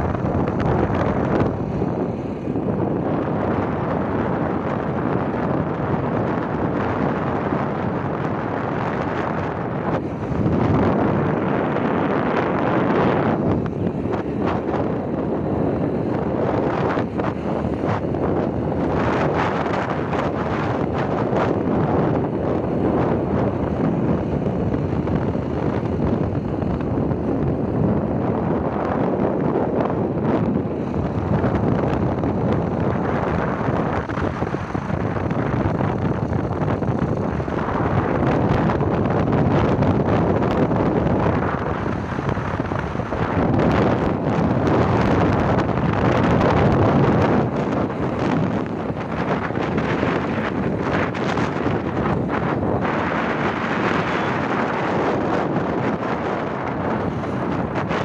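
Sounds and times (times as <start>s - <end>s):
motorbike road and engine noise: 0.0s - 58.0s
wind buffeting microphone: 0.0s - 58.0s.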